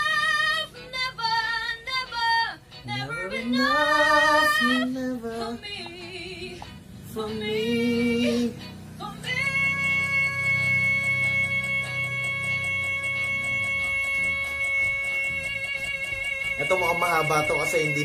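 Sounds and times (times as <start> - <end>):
woman singing with vibrato: 0.0 - 16.6.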